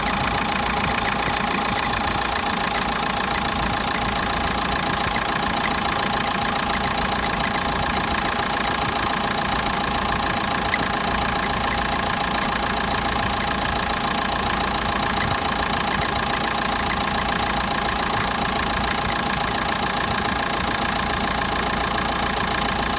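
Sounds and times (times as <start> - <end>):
fast even ticking: 0.0 - 21.2
diesel engine idling: 0.0 - 22.9.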